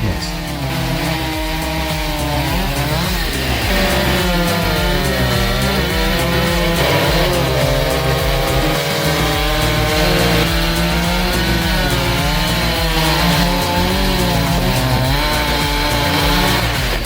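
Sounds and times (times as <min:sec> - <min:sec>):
background music: 0:00.0 - 0:17.0
chainsaw cutting wood: 0:00.0 - 0:17.0.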